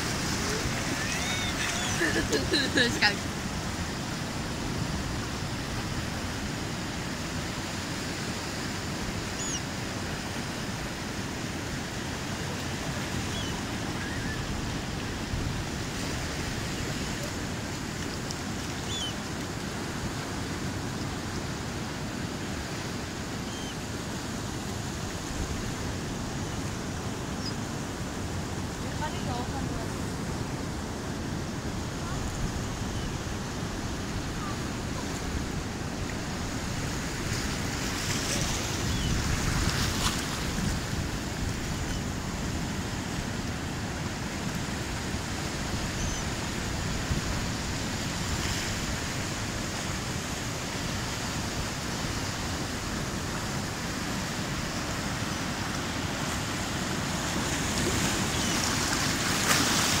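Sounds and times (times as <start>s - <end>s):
waves washing over rocks: 0.0s - 60.0s.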